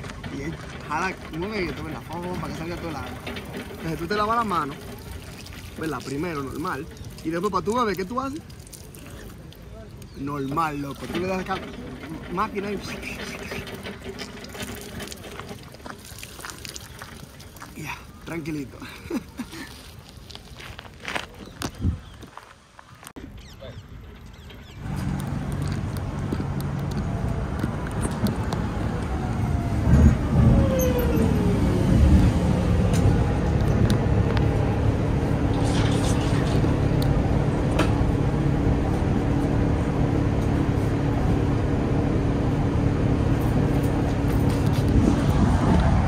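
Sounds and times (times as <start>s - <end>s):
vehicle engines humming: 0.0s - 16.0s, 23.2s - 46.0s.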